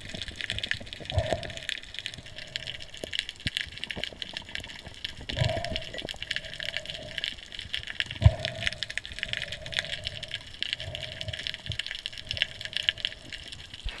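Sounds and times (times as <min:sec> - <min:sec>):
dense underwater crackling: 0:00.0 - 0:14.0.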